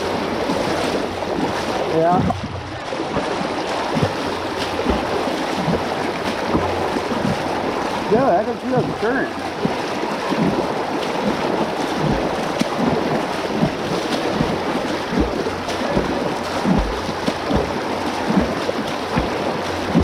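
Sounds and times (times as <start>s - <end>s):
wading footsteps thumping: 0.0s - 20.0s
water sloshing and splashing: 0.0s - 20.0s.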